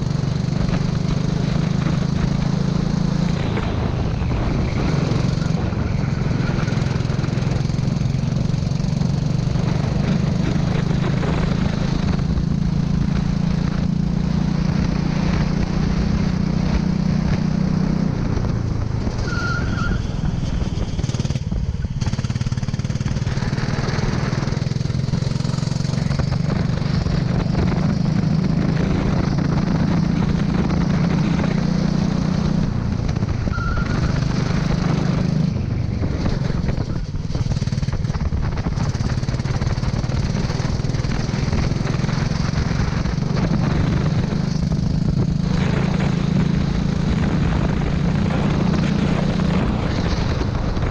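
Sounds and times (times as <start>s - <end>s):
go-kart engine revving: 0.0s - 50.9s.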